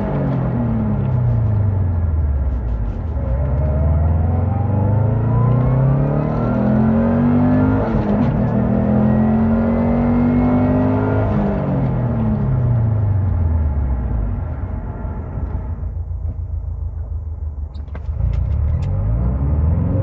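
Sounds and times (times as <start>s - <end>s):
turbocharged engine accelerating: 0.0s - 15.8s, 17.7s - 20.0s.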